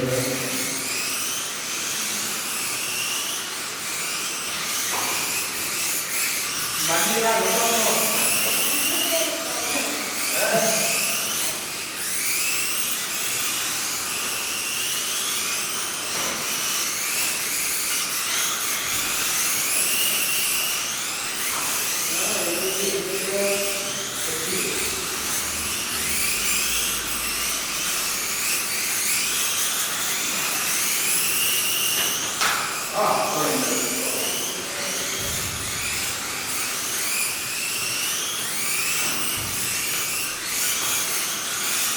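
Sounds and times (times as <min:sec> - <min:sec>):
toy car electric motors whining: 0:00.0 - 0:41.9.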